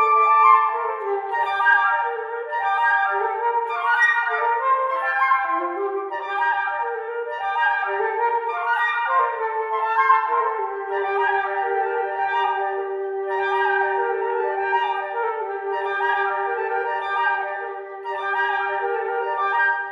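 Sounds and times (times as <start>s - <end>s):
flutes playing in chords: 0.0s - 19.9s
low flute holding long note: 0.0s - 19.9s.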